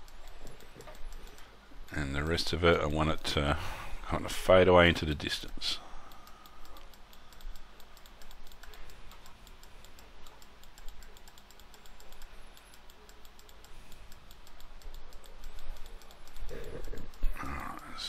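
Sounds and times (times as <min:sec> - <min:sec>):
keyboard and mouse clicking: 0:00.0 - 0:01.6, 0:05.0 - 0:18.0
faint even ticking: 0:00.0 - 0:18.0.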